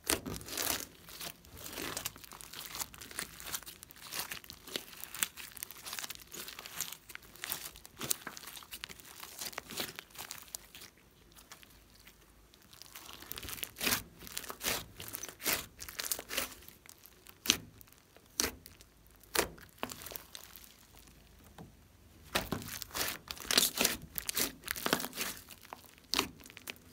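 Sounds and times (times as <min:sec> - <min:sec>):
slime squelching and popping: 0:00.0 - 0:26.9.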